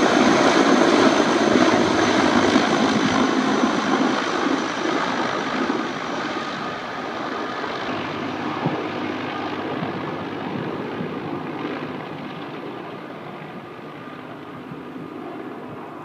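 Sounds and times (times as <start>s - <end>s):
helicopter rotor and turbine drone: 0.0s - 16.0s.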